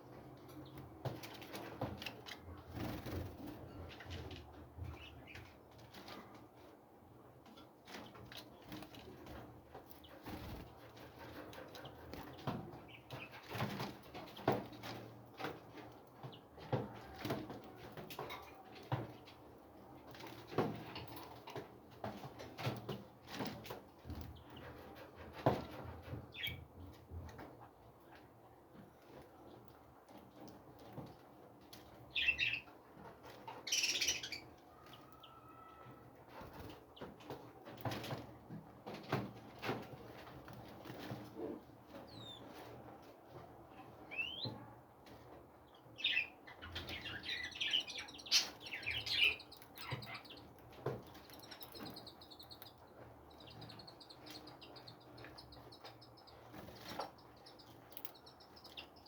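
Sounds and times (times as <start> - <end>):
small birds chirping: 0.1 - 6.2, 7.8 - 19.4, 20.0 - 29.7, 31.9 - 37.2, 41.9 - 42.6, 44.0 - 44.7, 45.6 - 59.0.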